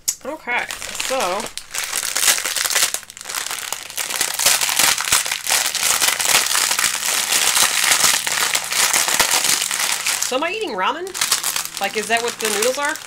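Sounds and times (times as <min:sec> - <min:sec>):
dry noodles cracking: 0:00.0 - 0:13.0
plastic wrapper crinkling: 0:00.2 - 0:13.0.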